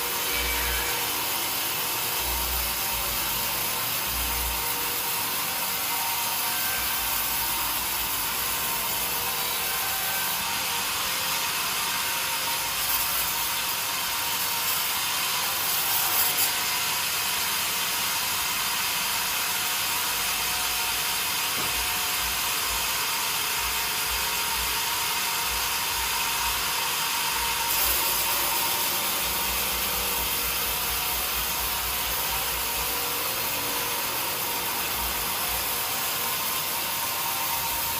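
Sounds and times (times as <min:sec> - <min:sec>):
saw cutting through wood: 0:00.0 - 0:37.9.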